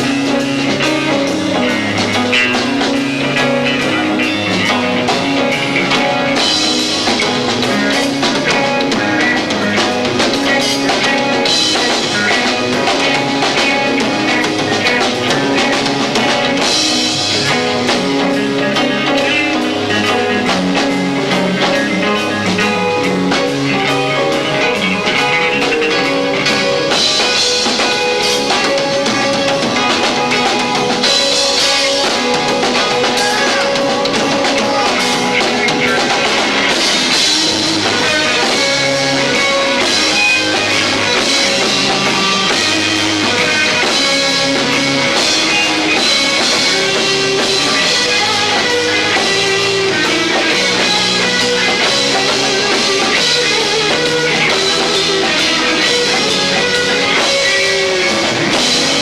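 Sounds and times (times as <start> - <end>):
bass line: 0.0 - 59.0
drums: 0.0 - 59.0
electric guitar: 0.0 - 59.0.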